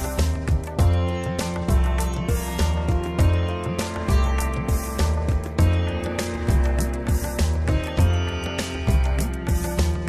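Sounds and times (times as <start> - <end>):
music with beat and deep bass: 0.0 - 10.0.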